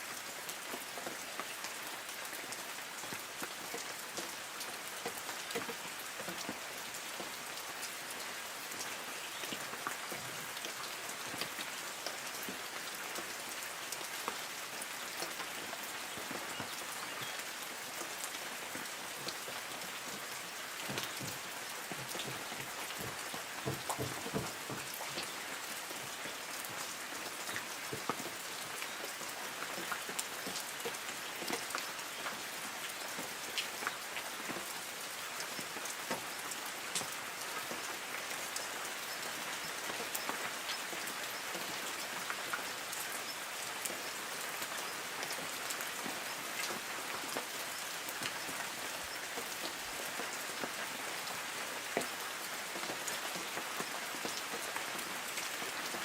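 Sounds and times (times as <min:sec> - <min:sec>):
light rain on trees: 0:00.0 - 0:56.0
raindrops pattering on leaves: 0:00.0 - 0:56.0.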